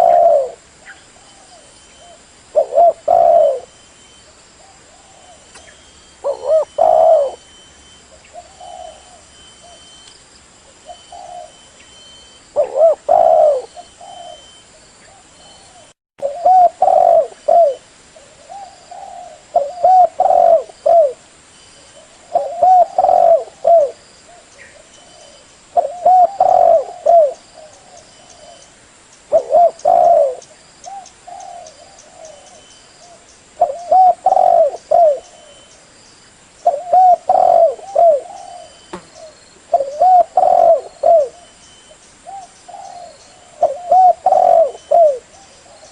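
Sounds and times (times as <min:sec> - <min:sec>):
dove cooing: 0:00.0 - 0:03.8, 0:04.6 - 0:07.7, 0:08.3 - 0:10.0, 0:10.8 - 0:21.2, 0:21.9 - 0:28.7, 0:29.3 - 0:35.7, 0:36.6 - 0:45.9.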